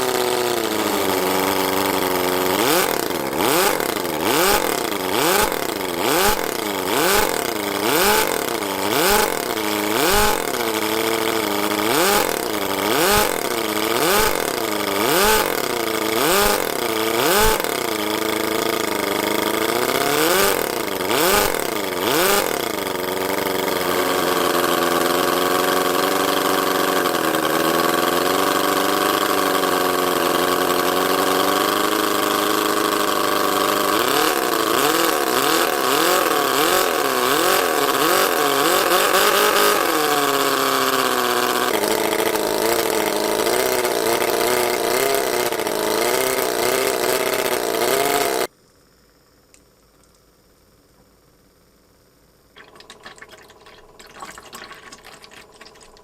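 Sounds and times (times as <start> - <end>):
miniature engine revving: 0.0 - 48.5, 52.6 - 56.0.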